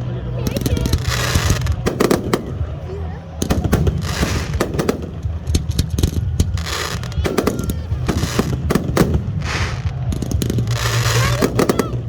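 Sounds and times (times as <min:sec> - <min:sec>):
fireworks bangs: 0:00.4 - 0:12.0.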